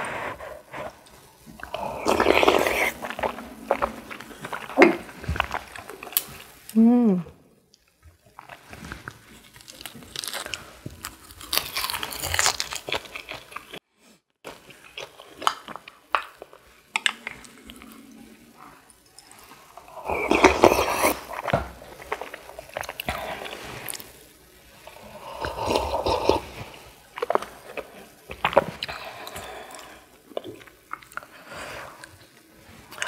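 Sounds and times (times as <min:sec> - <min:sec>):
chewing crisp food: 0:00.7 - 0:06.8, 0:07.8 - 0:13.8, 0:14.5 - 0:33.0.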